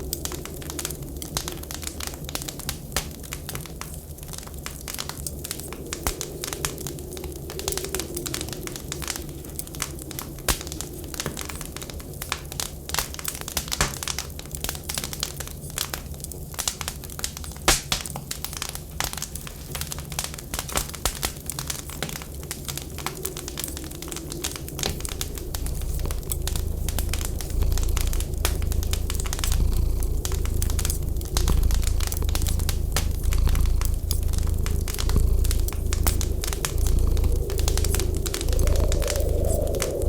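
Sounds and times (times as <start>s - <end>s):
wood fire crackling in stove: 0.0s - 40.0s.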